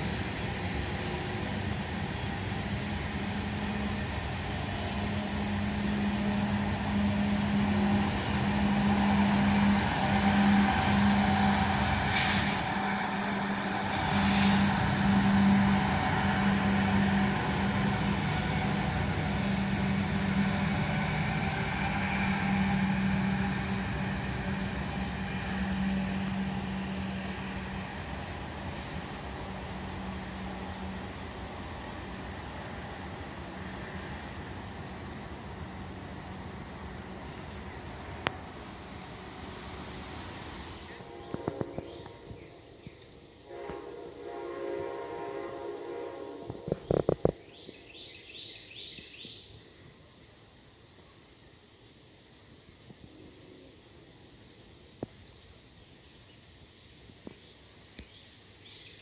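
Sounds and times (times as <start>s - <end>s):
freight train rolling past: 0.0s - 50.6s.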